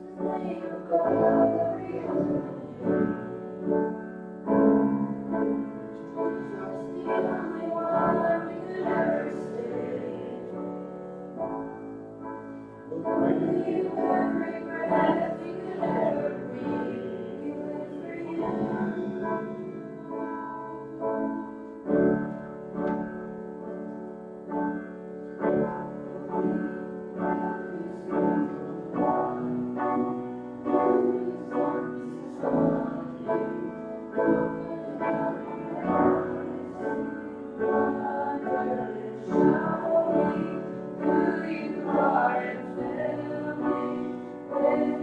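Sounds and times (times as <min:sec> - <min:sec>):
congregation singing with instruments: 0:00.0 - 0:45.0
piano playing a hymn: 0:00.0 - 0:45.0.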